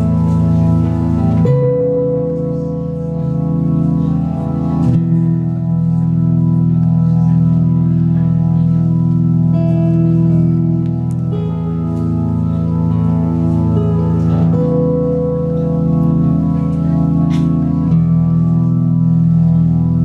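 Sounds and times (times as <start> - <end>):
organ-like keyboard chords: 0.0 - 20.0.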